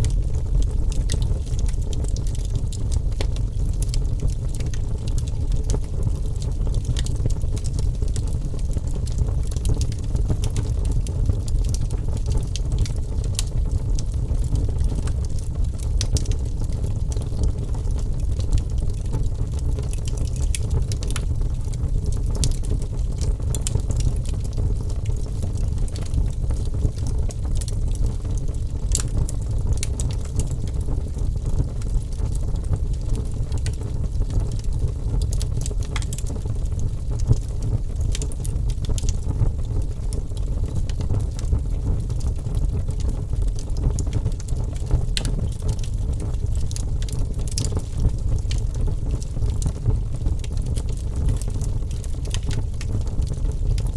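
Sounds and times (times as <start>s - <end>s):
logs crackling and popping: 0.0s - 53.9s
wood fire burning: 0.0s - 53.9s.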